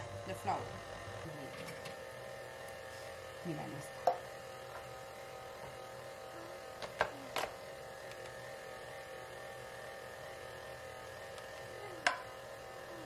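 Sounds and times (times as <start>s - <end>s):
stand mixer motor humming: 0.0s - 13.0s.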